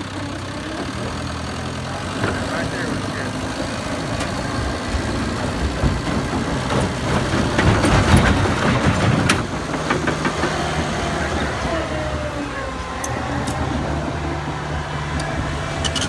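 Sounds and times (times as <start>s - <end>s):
dozer diesel engine running: 0.0s - 16.0s.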